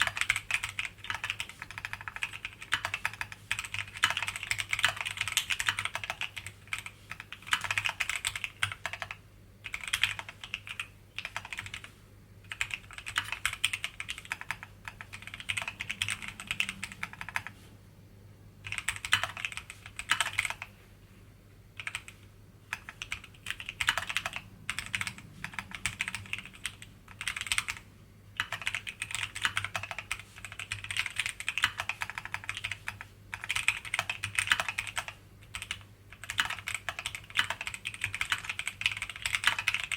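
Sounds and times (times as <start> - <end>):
mechanical keyboard typing: 0.0 - 11.9, 12.5 - 17.5, 18.6 - 20.7, 21.8 - 27.8, 28.4 - 39.9.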